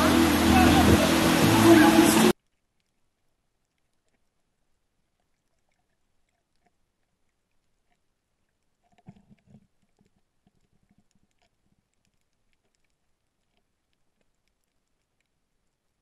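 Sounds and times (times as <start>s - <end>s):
faint underwater clicks: 2.4s - 16.0s.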